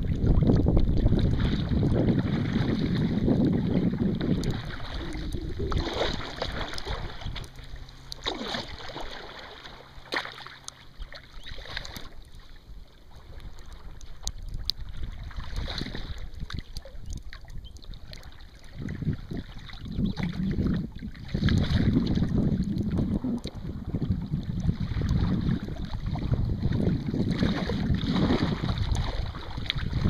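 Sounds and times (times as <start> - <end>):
wind buffeting microphone: 0.0 - 7.8, 12.8 - 30.0
paddle strokes in water: 0.0 - 30.0
splashes and drips: 0.0 - 30.0.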